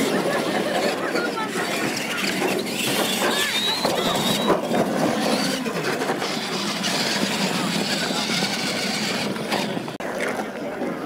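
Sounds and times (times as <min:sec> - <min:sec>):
crowd hubbub: 0:00.0 - 0:11.0
toy truck electric motor whirring: 0:00.1 - 0:09.9.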